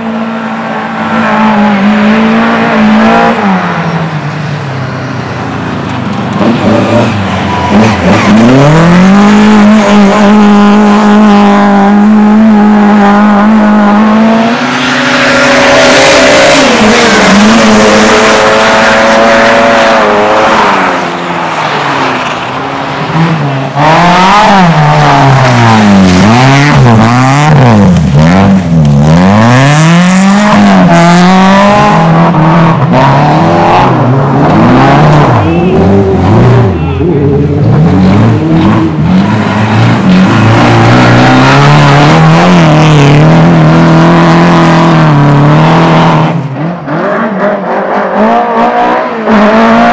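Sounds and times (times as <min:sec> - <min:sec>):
race car engine revving: 0:00.0 - 0:04.4, 0:05.0 - 0:49.9.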